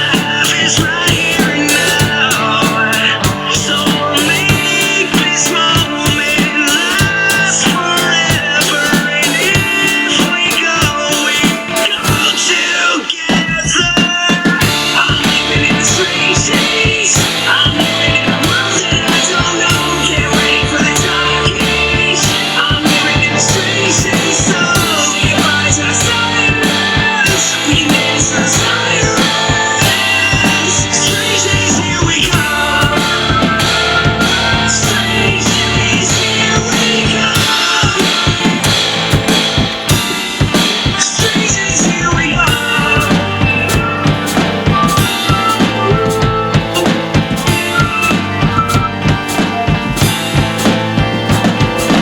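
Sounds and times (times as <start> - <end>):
instrumental rock music: 0.0 - 52.0.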